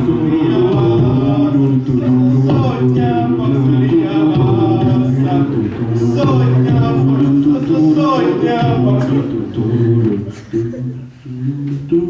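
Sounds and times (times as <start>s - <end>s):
man singing long notes: 0.0s - 12.0s
music: 0.0s - 12.0s.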